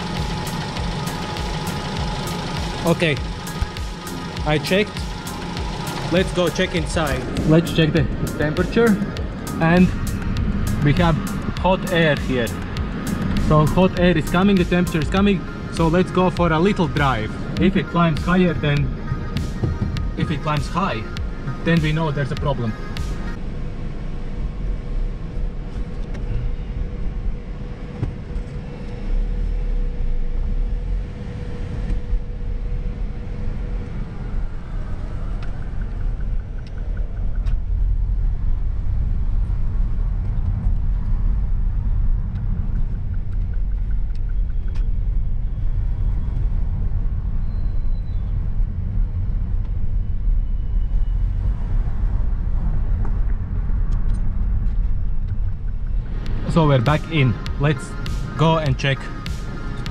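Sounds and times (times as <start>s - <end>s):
car engine running: 0.0s - 59.9s
road rumble inside car: 0.0s - 59.9s.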